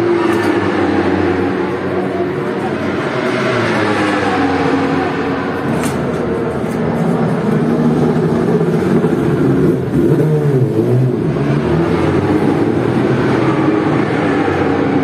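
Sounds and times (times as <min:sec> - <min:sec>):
racing motorcycle engines drone: 0:00.0 - 0:15.0.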